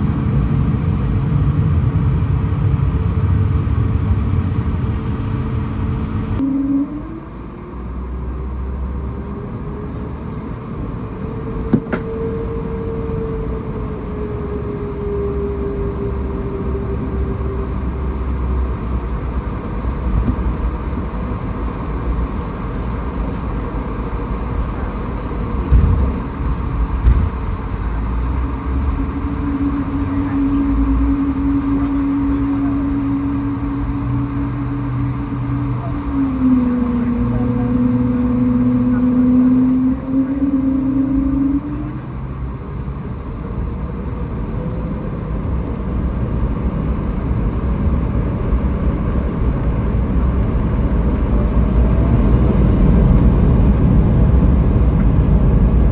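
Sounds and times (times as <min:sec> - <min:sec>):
jet engine hum in cabin: 0:00.0 - 0:55.9
steady lower tone: 0:00.0 - 0:55.9.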